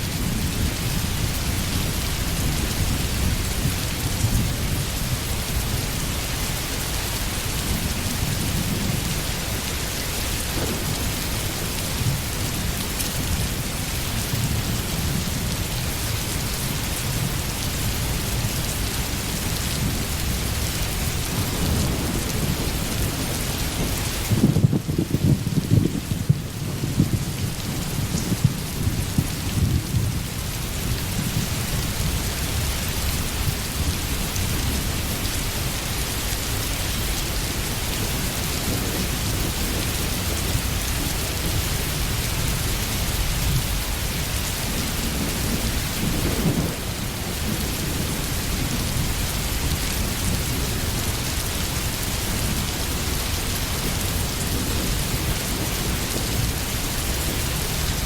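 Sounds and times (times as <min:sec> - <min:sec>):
low rolling thunder: 0:00.0 - 0:36.2, 0:36.9 - 0:58.0
steady rain falling: 0:00.0 - 0:58.0.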